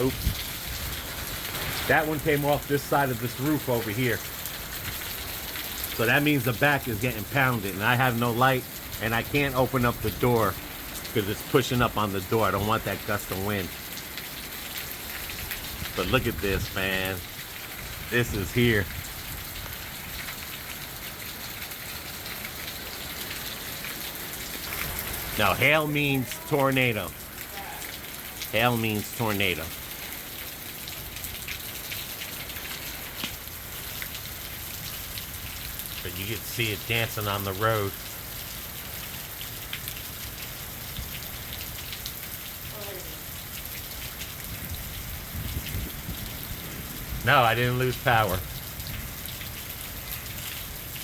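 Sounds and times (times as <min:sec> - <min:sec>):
hail pelting: 0:00.0 - 0:51.0
heavy rain: 0:00.0 - 0:51.0.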